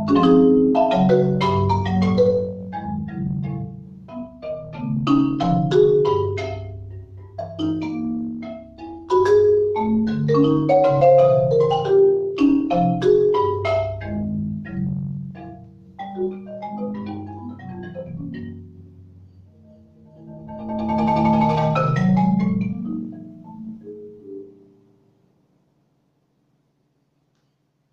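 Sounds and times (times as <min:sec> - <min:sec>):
marimba played with mallets: 0:00.0 - 0:24.8.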